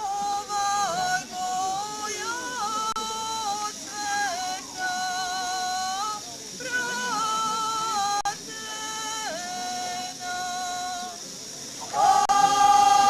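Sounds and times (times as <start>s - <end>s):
women singing folk song: 0.0s - 11.2s, 11.8s - 13.0s.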